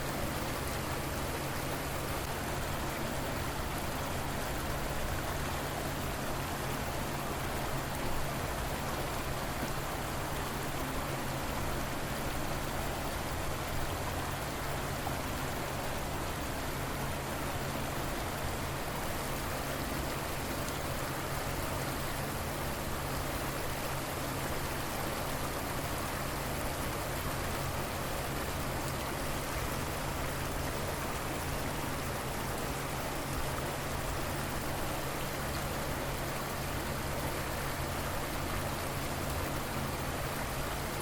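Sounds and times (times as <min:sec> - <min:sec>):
river water flowing: 0:00.0 - 0:41.0.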